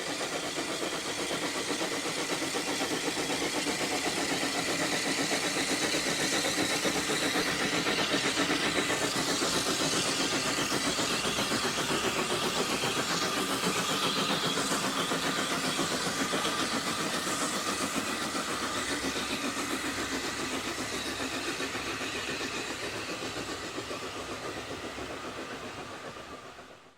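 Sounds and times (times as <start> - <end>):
steam hiss: 0.0 - 26.9
steam locomotive exhaust beats: 0.0 - 26.9.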